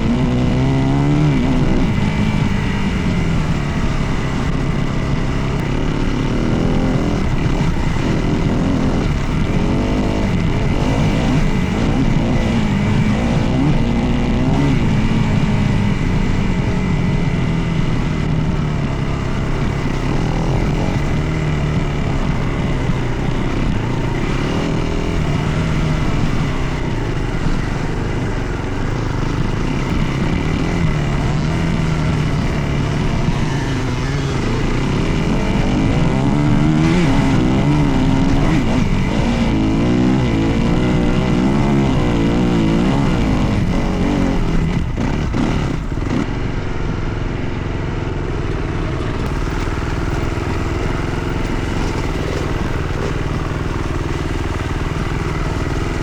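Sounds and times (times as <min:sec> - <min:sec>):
dirt bike engine running: 0:00.0 - 0:56.0
rough riding noise: 0:00.0 - 0:56.0.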